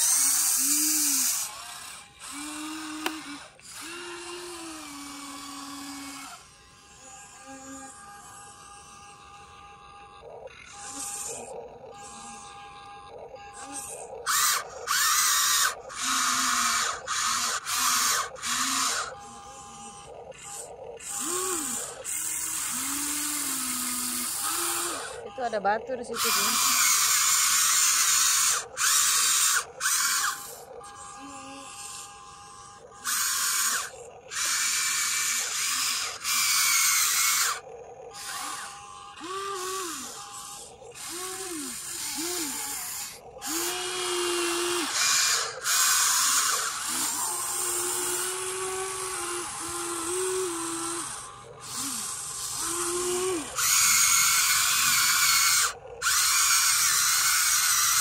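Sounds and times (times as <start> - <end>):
toy excavator motors whirring: 0.0 - 58.0.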